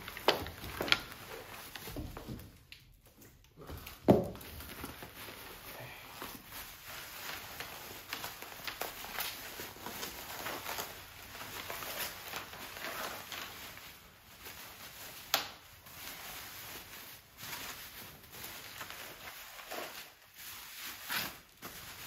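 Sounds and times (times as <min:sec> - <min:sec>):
bubble wrap rustling and crinkling: 0:00.0 - 0:22.0.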